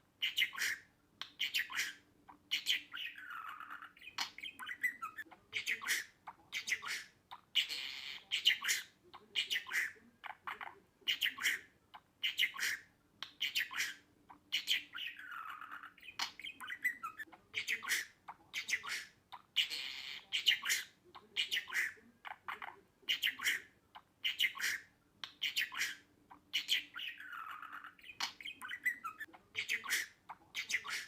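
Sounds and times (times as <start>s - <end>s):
budgerigar chirping and squawking: 0.2s - 31.0s.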